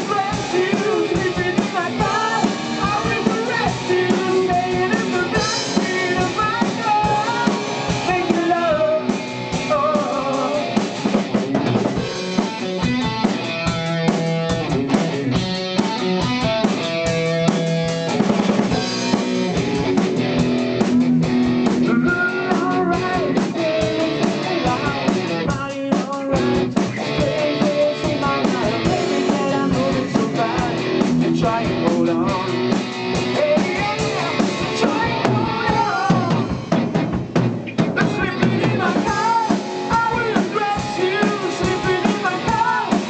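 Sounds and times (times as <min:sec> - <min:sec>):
bass: 0:00.0 - 0:43.0
drum kit: 0:00.0 - 0:43.0
electric guitars: 0:00.0 - 0:43.0.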